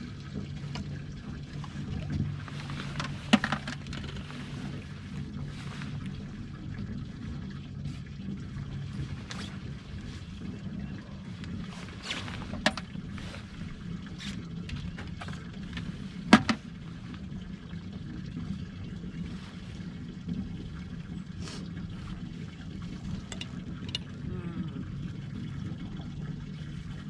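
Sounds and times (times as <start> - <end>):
steady low hum: 0.0 - 27.0
water trickling and dripping: 0.0 - 27.0.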